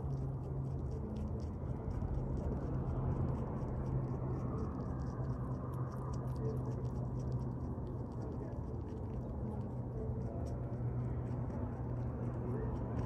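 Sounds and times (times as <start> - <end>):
low background rumble: 0.0 - 13.0
rabbit chewing crunchily: 0.0 - 13.0.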